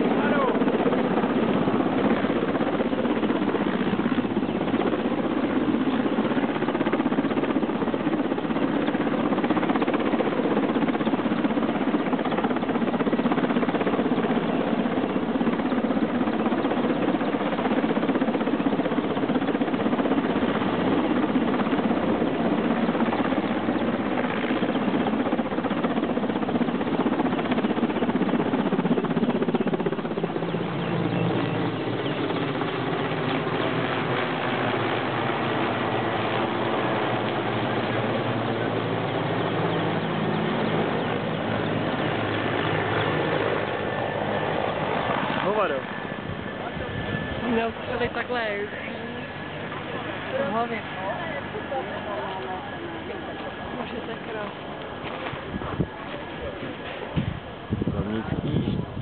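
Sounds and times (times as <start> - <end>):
helicopter rotor chop: 0.0 - 59.0.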